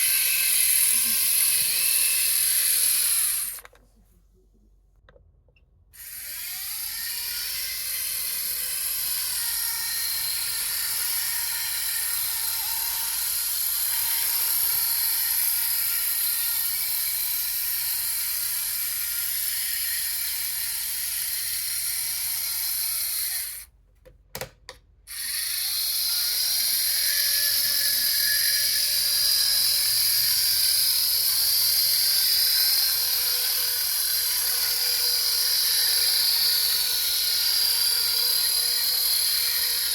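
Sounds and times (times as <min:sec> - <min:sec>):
model locomotive motor whirring: 0:00.0 - 0:03.8, 0:06.0 - 0:23.7, 0:25.1 - 0:39.9.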